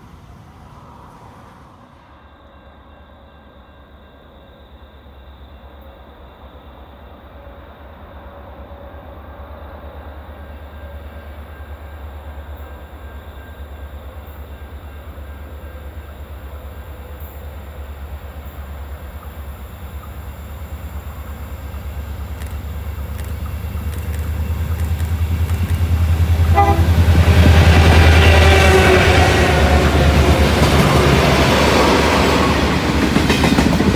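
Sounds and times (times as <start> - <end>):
diesel locomotive engines rumbling: 0.0 - 33.9.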